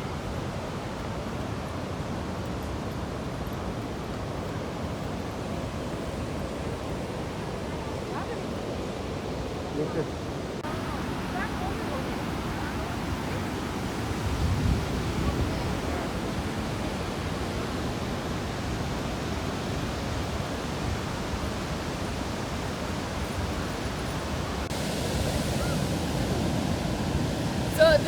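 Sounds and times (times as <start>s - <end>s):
waterfall roaring: 3.8s - 28.0s.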